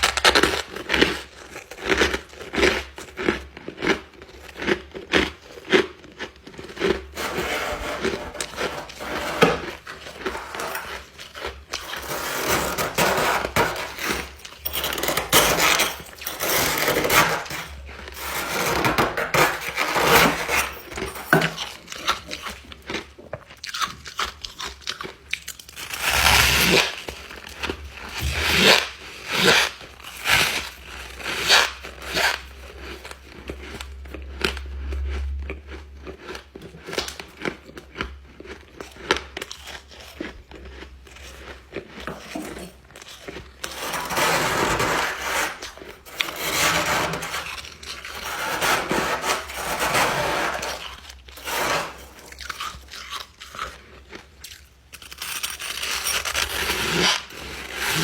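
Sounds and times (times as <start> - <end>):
ice being chewed: 0.0 - 18.6, 19.5 - 58.0.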